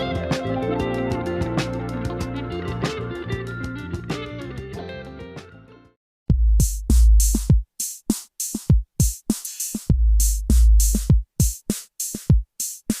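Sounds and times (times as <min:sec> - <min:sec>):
drum machine beat: 0:00.0 - 0:04.8, 0:06.3 - 0:13.0.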